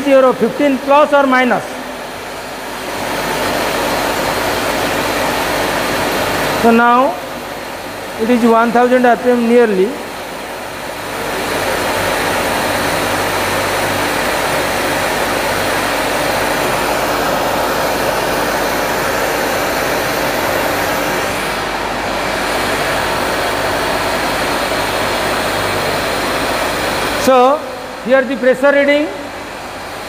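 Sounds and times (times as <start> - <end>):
turbine and pump machine hum: 0.0 - 30.0.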